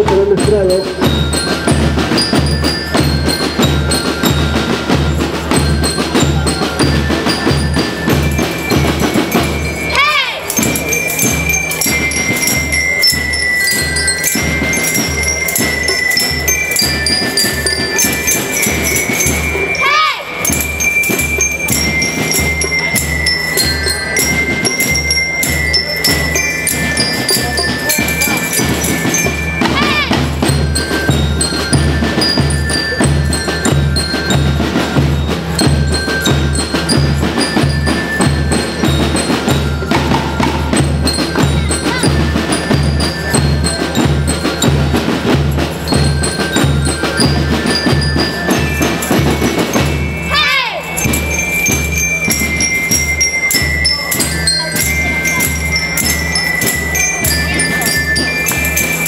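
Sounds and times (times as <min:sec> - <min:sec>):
snare and bass drum beat: 0:00.0 - 0:19.8, 0:20.4 - 0:59.0
bell lyres melody: 0:00.0 - 0:59.0.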